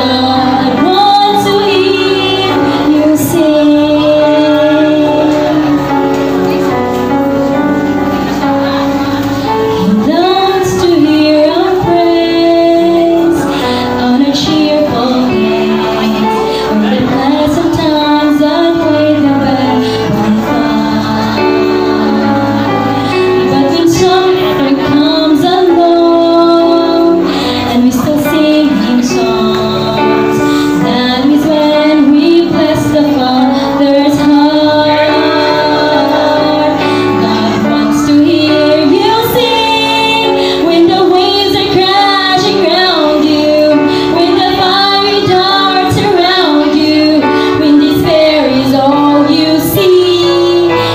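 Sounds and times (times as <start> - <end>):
woman singing: 0.0 - 6.7, 9.6 - 50.9
instrumental accompaniment: 0.0 - 50.9.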